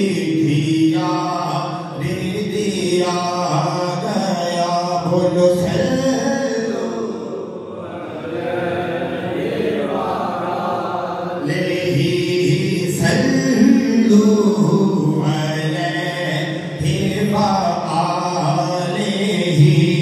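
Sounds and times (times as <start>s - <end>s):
man singing into a microphone: 0.0s - 7.6s, 11.4s - 20.0s.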